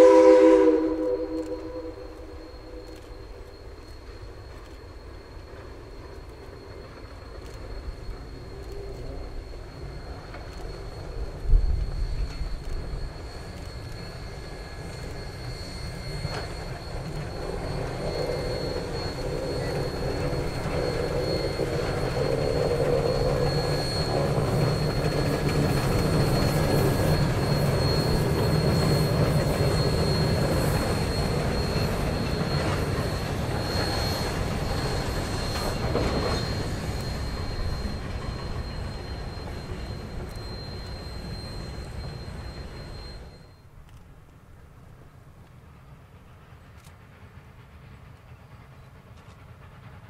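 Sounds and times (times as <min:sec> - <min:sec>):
steam locomotive passing: 0:00.0 - 0:50.0.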